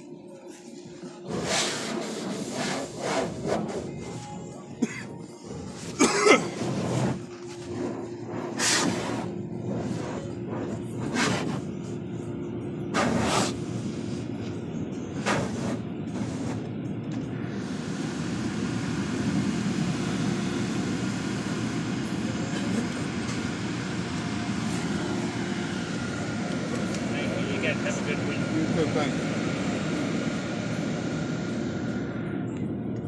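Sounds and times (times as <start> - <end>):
car wash low rumble: 0.0 - 33.0.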